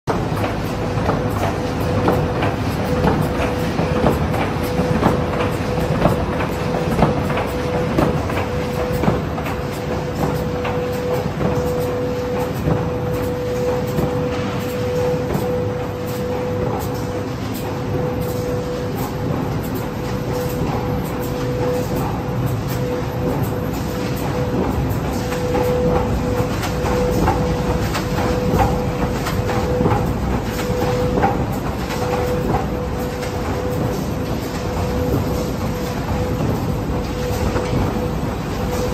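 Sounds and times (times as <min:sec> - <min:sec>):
constant machine whine: 0:00.0 - 0:38.9
machine mechanical hum: 0:00.0 - 0:38.9
sharp machine clacks: 0:00.1 - 0:38.9.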